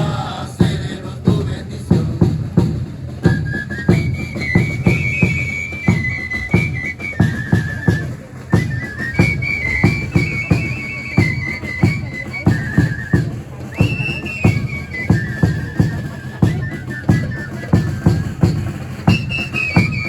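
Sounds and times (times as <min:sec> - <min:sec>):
drums beating a steady rhythm: 0:00.0 - 0:20.0
high flute playing a melody: 0:03.1 - 0:20.0.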